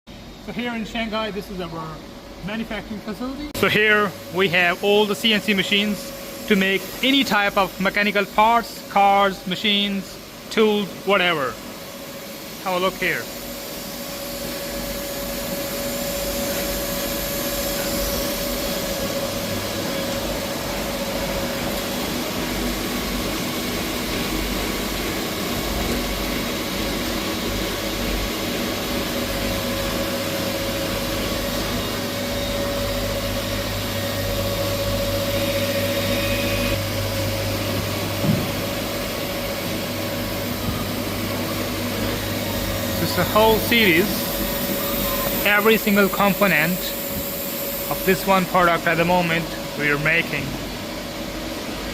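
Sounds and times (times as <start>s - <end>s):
cnc machines humming and whining: 0.2s - 51.9s.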